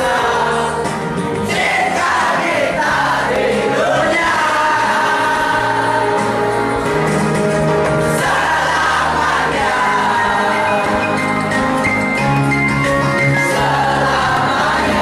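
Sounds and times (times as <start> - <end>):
voices singing together: 0.0 - 12.1, 13.2 - 15.0
steady bass line: 0.0 - 15.0.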